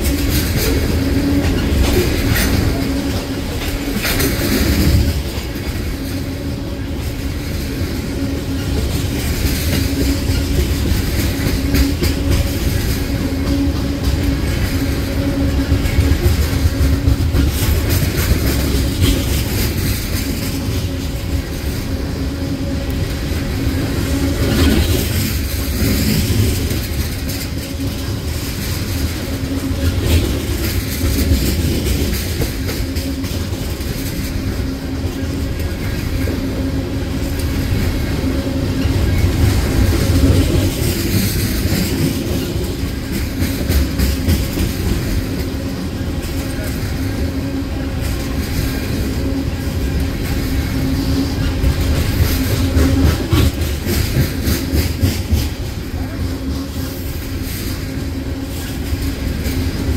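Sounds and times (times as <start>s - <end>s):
train wheels rumbling on rails: 0.0s - 59.9s
wheels clicking over rail joints: 0.0s - 59.9s.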